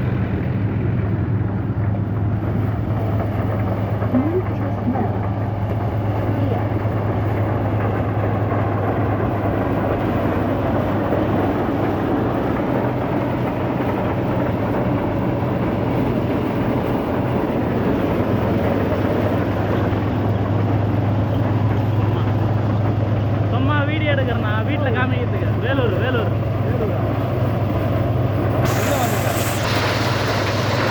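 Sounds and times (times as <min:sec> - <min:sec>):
tractor engine hum: 0:00.0 - 0:30.9.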